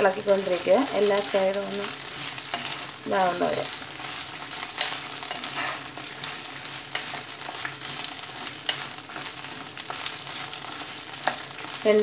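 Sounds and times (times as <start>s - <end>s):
okra sizzling in oil: 0.0s - 12.0s.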